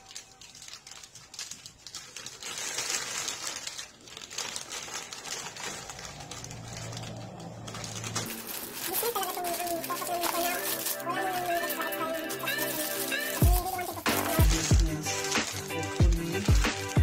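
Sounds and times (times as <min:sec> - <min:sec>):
plastic pouch crinkling: 0:00.0 - 0:17.0
scissors cutting plastic: 0:00.0 - 0:17.0.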